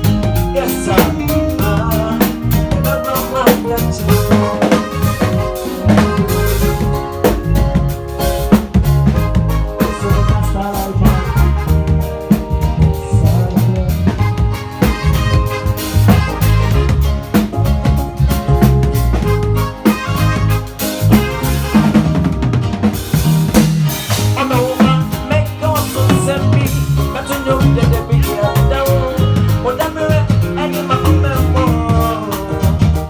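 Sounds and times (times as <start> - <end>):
band playing music: 0.0 - 33.0
bass: 0.0 - 33.0
drum kit beat: 0.0 - 33.0.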